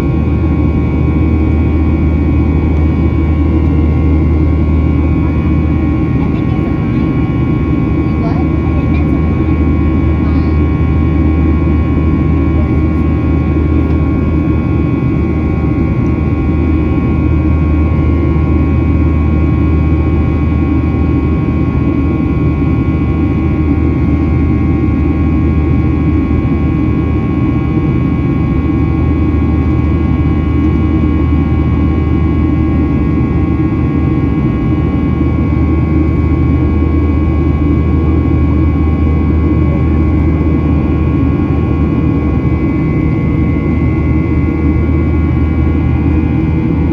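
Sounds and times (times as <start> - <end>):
jet engine and airflow rumble: 0.0 - 46.9
turbofan whining tones: 0.0 - 46.9.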